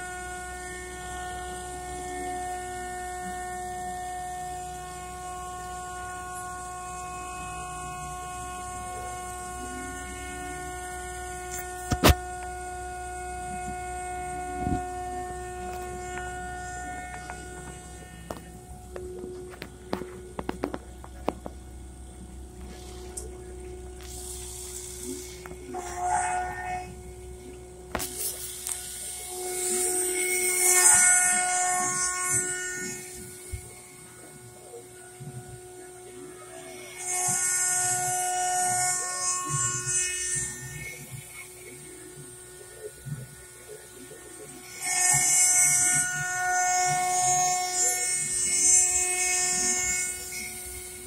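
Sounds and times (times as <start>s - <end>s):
milling machine whine: 0.0s - 51.0s.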